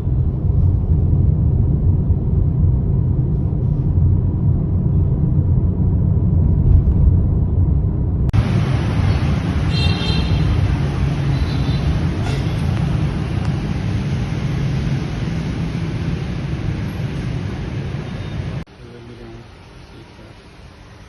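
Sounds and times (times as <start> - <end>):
loud low rumble: 0.0 - 18.7
hissy rumble: 0.0 - 21.0.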